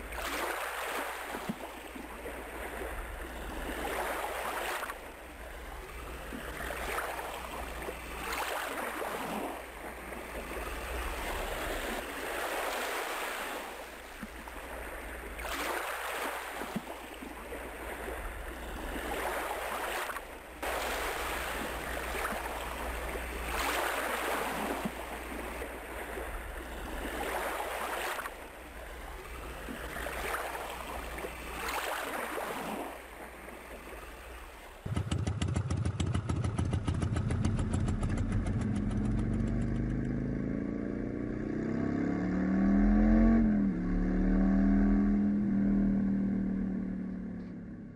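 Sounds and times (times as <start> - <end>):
ocean waves washing: 0.0 - 47.9.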